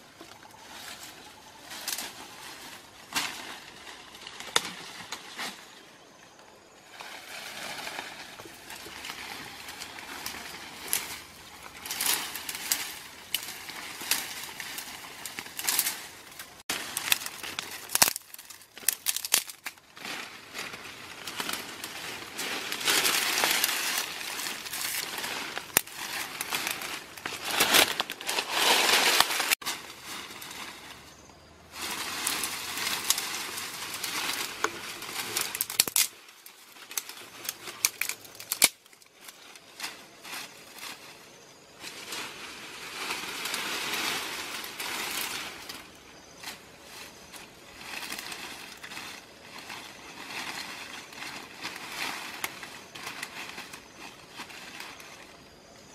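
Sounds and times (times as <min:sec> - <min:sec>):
dry plants crackling and rustling: 0:00.0 - 0:55.9.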